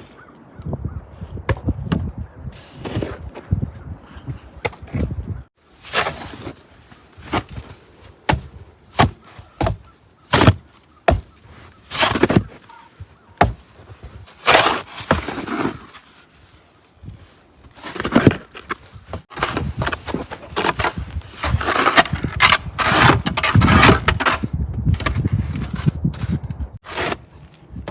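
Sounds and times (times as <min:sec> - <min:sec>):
short scrapes and thumps: 0:01.5 - 0:16.2, 0:17.6 - 0:27.3.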